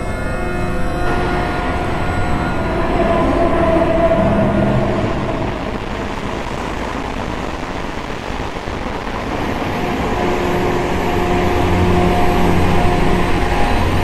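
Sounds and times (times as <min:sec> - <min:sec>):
droning rumble: 0:00.0 - 0:14.0
low humming tones: 0:00.0 - 0:14.0.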